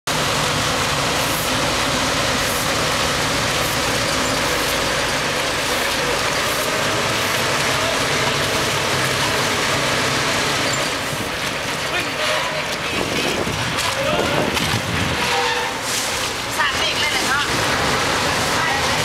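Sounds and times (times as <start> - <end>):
diesel engine running: 0.1 - 19.0.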